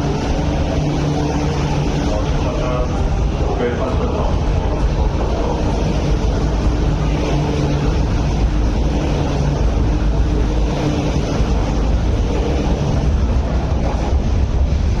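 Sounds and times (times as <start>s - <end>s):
electric train passing: 0.0s - 15.0s
faint steady hum: 0.0s - 15.0s.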